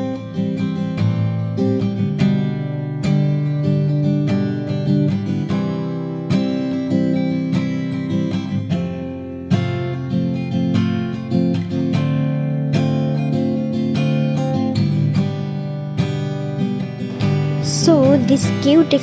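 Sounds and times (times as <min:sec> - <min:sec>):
acoustic guitar strumming and picking: 0:00.0 - 0:19.0.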